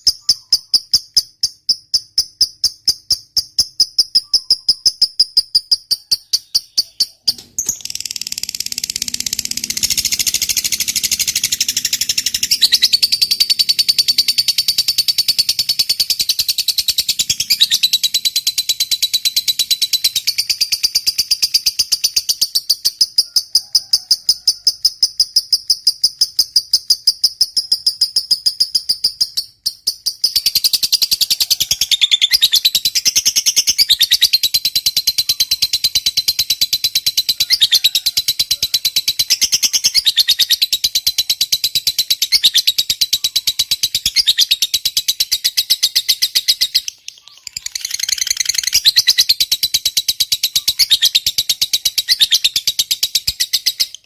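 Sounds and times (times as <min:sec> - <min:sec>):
lovebird shrill chattering song: 0:00.0 - 0:02.0, 0:03.0 - 0:23.0, 0:26.3 - 0:54.0.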